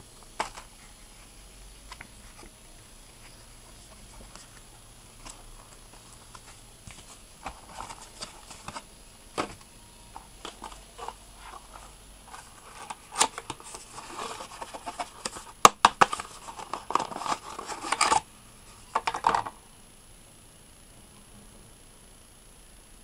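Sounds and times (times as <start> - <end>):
cardboard and paper rustling: 0.2 - 19.5.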